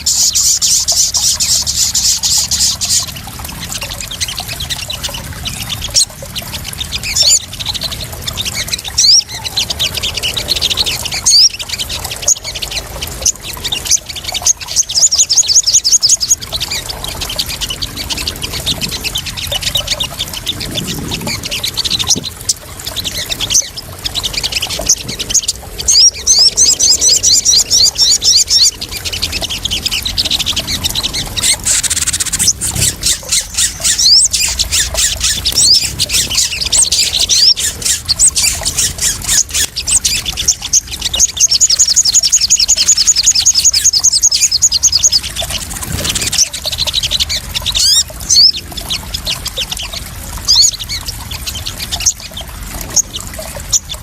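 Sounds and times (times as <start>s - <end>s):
birds chirping in fast trills: 0.0s - 54.0s
splashing water: 0.0s - 54.0s.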